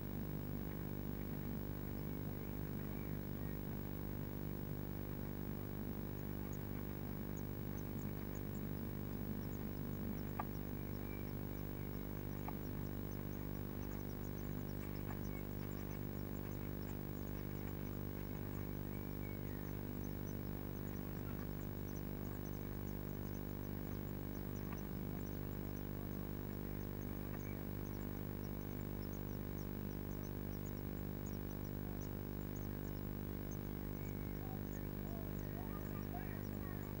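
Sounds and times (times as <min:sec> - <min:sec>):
electrical hum: 0:00.0 - 0:37.0
nestlings begging calls: 0:01.2 - 0:03.7, 0:05.9 - 0:37.0.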